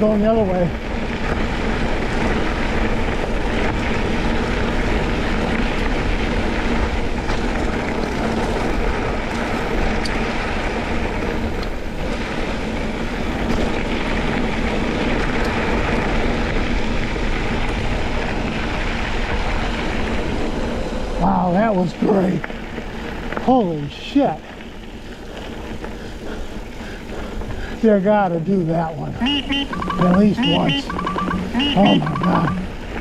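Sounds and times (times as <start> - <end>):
bike tyres rumbling over gravel: 0.0 - 33.0.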